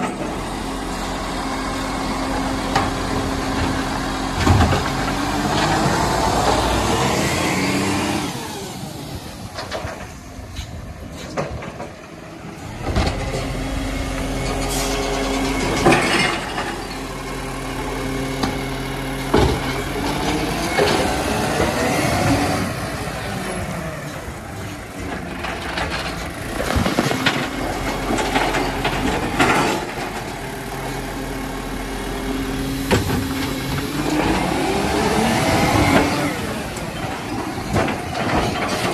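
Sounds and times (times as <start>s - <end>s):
bins and hydraulic arm clunking: 0.0s - 38.9s
garbage truck engine running: 0.0s - 38.9s.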